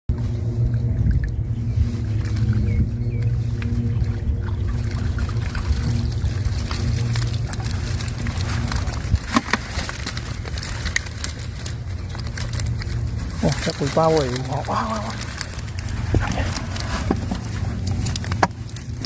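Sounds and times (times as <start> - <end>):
boat engine humming: 0.1 - 19.0.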